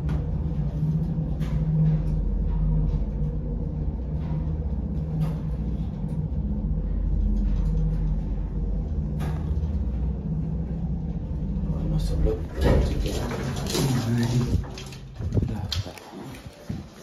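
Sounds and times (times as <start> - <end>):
lift car hum and rumble: 0.0 - 15.8.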